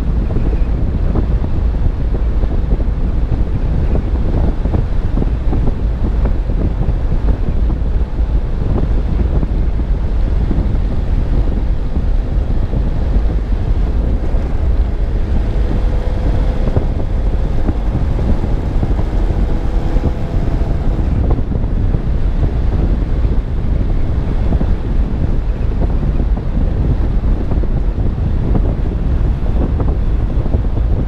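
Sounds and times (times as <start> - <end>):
car road noise: 0.0 - 31.0
wind buffeting microphone: 0.0 - 31.0.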